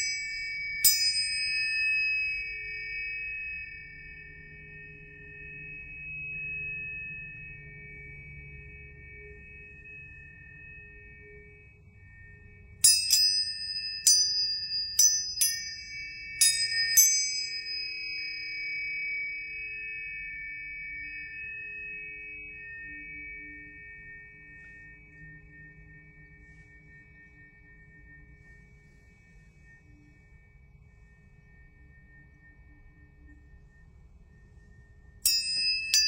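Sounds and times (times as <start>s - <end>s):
sharp tuning fork strikes: 0.0s - 36.0s
tuning forks ringing: 0.0s - 36.0s.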